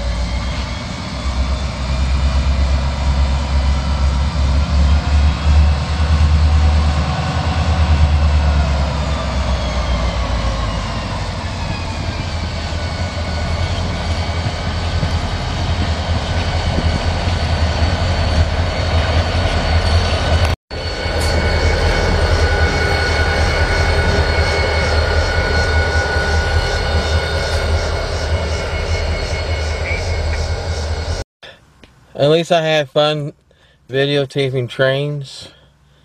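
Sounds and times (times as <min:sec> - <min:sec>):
high whine: 0:00.0 - 0:31.2
wheels rumbling on rail: 0:00.0 - 0:31.2
diesel locomotive engine drone: 0:00.0 - 0:36.0.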